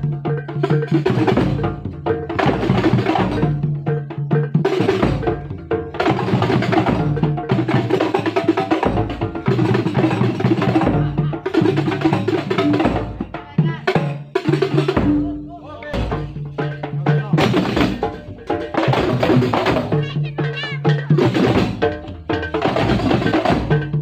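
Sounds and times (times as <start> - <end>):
drums and percussion: 0.0 - 24.0.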